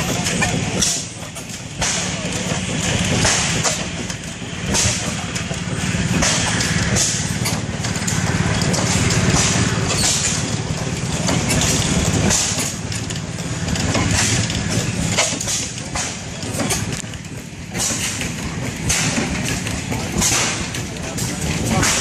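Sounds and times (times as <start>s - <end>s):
stationary gas engine chugging: 0.0s - 22.0s.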